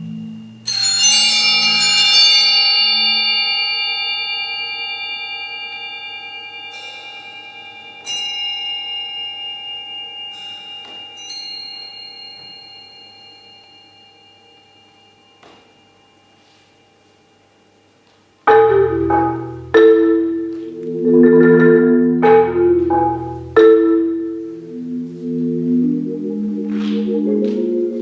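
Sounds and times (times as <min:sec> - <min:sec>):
bell-like metal percussion: 0:00.0 - 0:17.4, 0:18.5 - 0:24.5.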